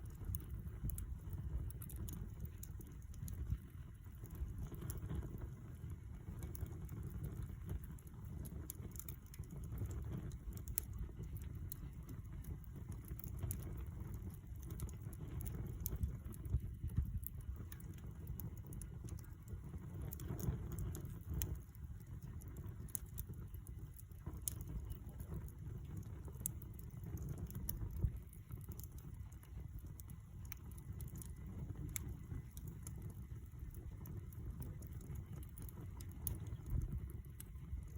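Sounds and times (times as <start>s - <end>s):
burning wood popping and snapping: 0.0s - 37.9s
low fire rumble: 0.0s - 37.9s.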